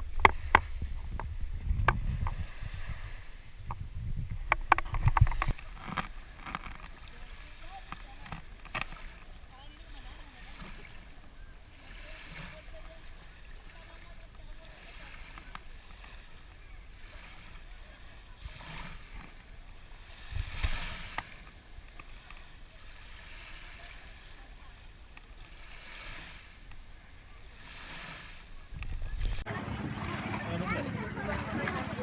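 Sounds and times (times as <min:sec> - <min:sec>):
water splashing against boat: 0:00.0 - 0:32.0.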